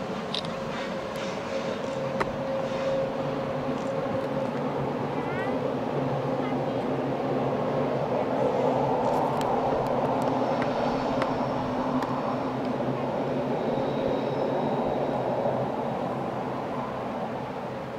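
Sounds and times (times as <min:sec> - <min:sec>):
distant train rumble: 0:00.0 - 0:17.9.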